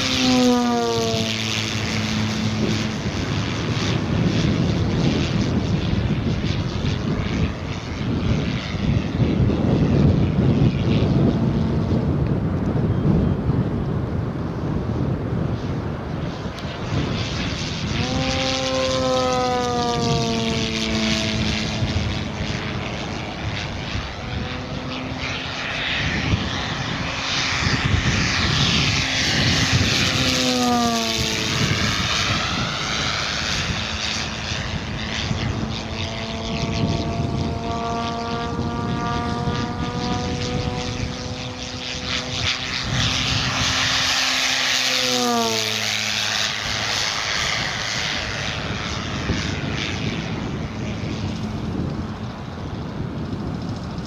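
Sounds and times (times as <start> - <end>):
model plane propeller humming past: 0.0 - 54.0.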